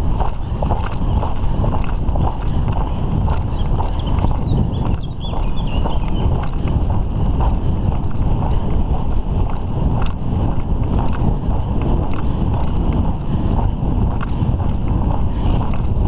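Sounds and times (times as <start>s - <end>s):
horse hoofbeats on sand: 0.0s - 16.0s
wind rushing over microphone: 0.0s - 16.0s.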